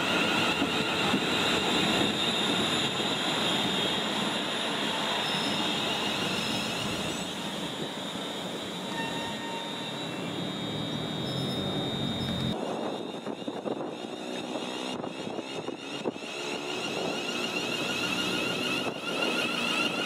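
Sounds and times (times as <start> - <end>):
high whine: 0.0 - 20.0
train passing: 0.0 - 20.0.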